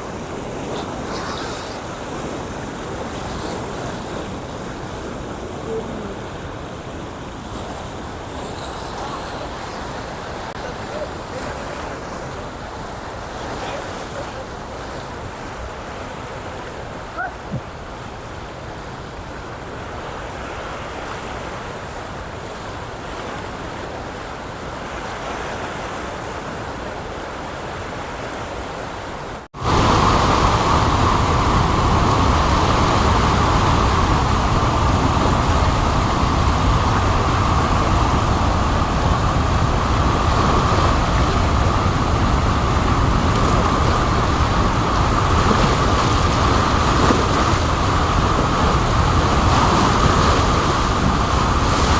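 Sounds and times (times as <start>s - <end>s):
water rushing through spillway: 0.0s - 51.9s.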